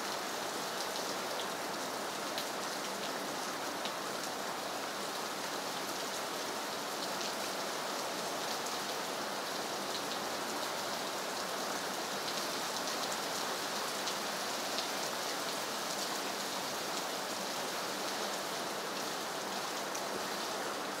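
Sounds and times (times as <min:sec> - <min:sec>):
rain falling on trees and water: 0:00.0 - 0:21.0.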